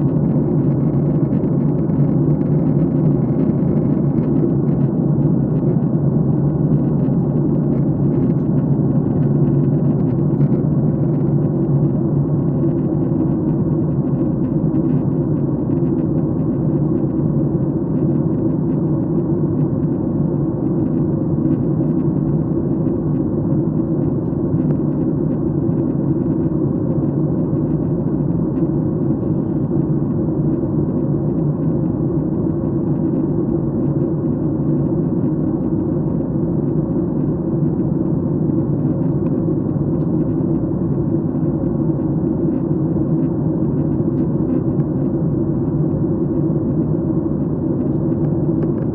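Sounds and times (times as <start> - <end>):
airliner cabin engine hum: 0.0 - 48.9.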